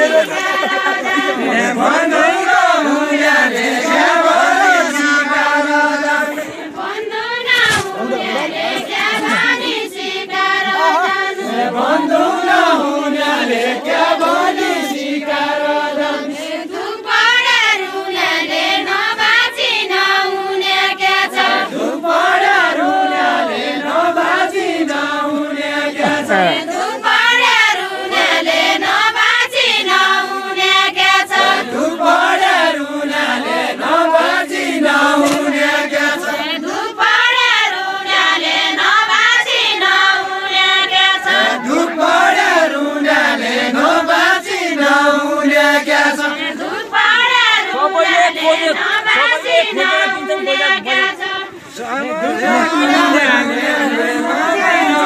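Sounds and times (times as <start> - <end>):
unaccompanied folk chorus singing: 0.0 - 55.0.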